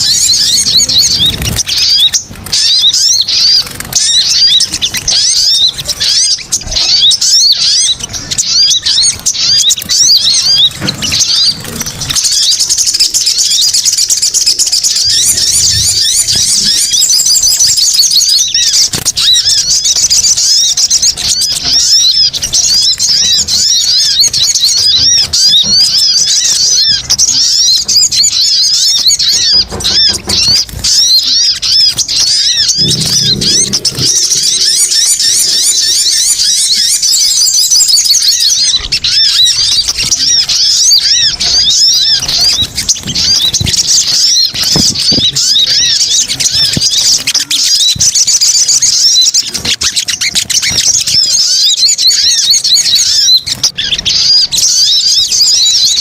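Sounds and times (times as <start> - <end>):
bird chirping high-pitched calls: 0.0 - 56.0.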